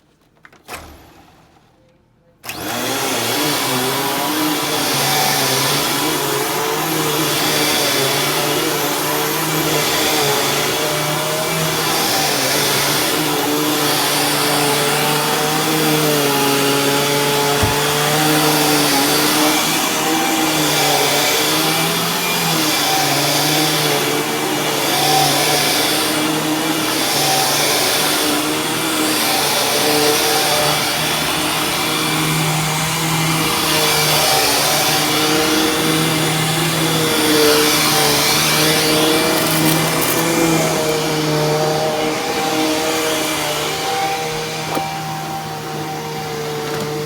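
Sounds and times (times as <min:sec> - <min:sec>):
vacuum cleaner on carpet: 0:02.4 - 0:47.0.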